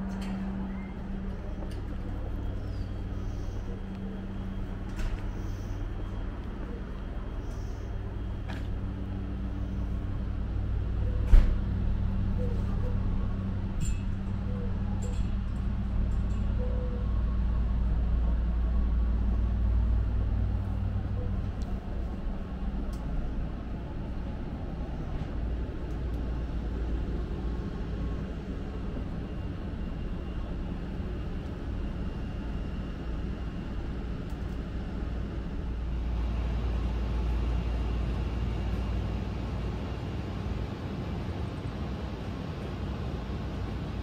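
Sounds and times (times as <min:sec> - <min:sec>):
low vehicle rumble: 0:00.0 - 0:39.2.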